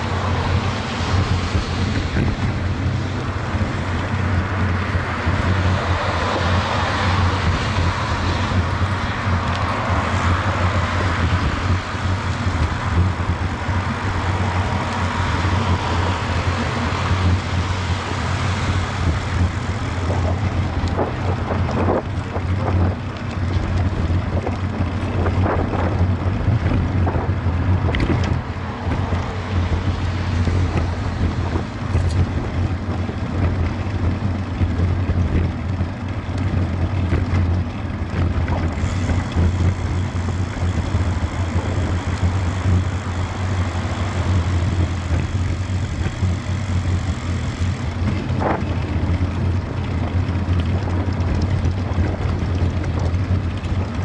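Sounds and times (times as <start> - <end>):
bicycle rumbling on paving stones: 0.0 - 54.0
wind buffeting microphone: 0.0 - 54.0.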